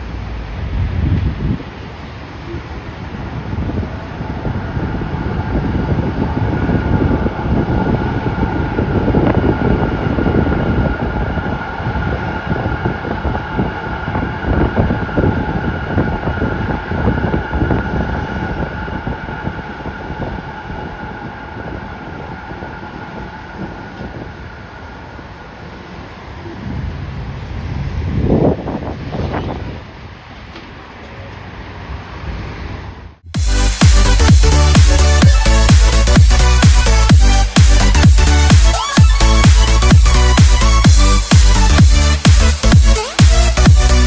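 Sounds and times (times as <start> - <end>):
tram whine: 0.0 - 44.0
wheels rumbling and rattling on rails: 0.0 - 44.0.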